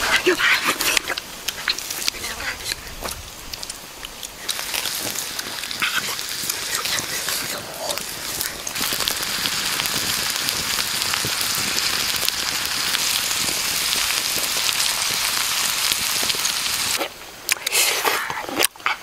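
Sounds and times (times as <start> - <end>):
food sizzling on hot stone: 0.0 - 17.1.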